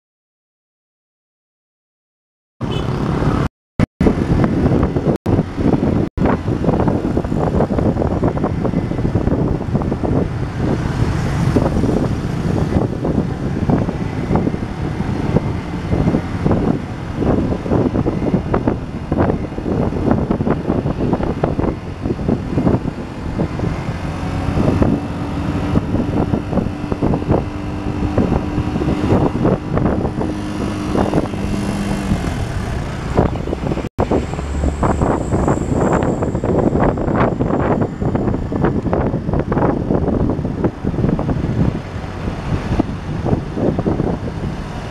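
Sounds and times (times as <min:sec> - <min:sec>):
motorcycle engine: 0:02.6 - 0:44.9
road traffic: 0:02.6 - 0:44.9
wind buffeting microphone: 0:04.0 - 0:44.9.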